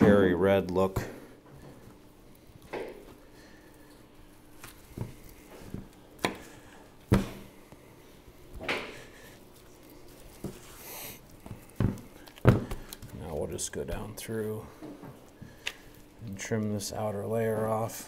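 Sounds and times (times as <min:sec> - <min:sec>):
meat being turned over: 0:00.0 - 0:18.0.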